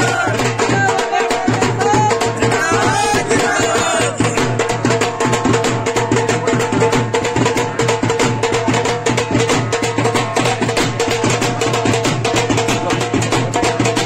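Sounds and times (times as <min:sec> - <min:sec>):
music with fast percussion beat: 0:00.0 - 0:14.0.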